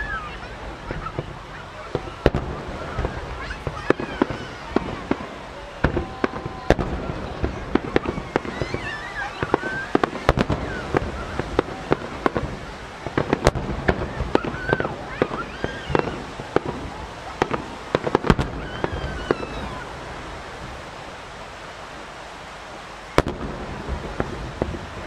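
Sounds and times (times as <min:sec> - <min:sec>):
fireworks booming and crackling: 0:00.0 - 0:22.0, 0:23.1 - 0:25.0
loud firework bang: 0:00.9 - 0:19.9, 0:23.2 - 0:24.9.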